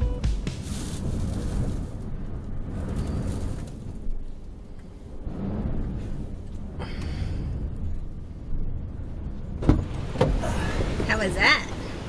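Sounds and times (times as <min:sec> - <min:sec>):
gusty wind buffeting a van: 0:00.1 - 0:12.0.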